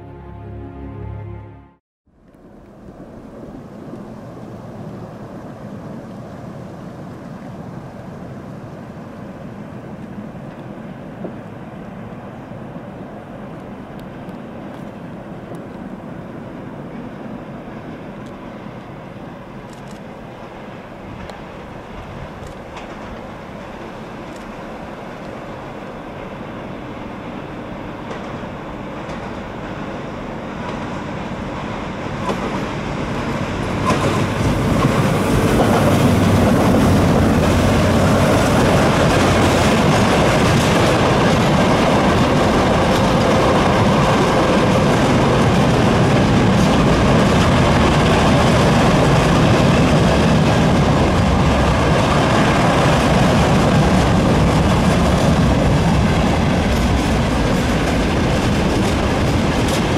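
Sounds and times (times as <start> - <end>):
freight train rumbling past: 8.8 - 59.9.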